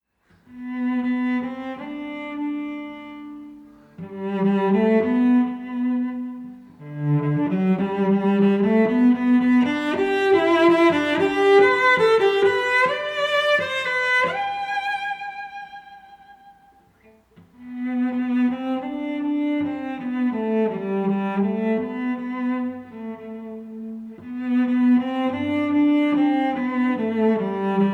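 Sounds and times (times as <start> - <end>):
bowed strings playing slow notes: 0.5 - 27.9.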